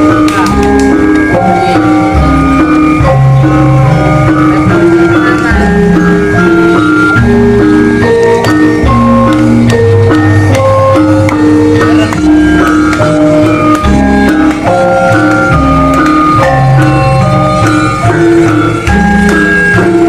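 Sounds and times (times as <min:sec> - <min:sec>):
drum and bass beats: 0:00.0 - 0:20.0
parade music with held notes: 0:00.0 - 0:20.0.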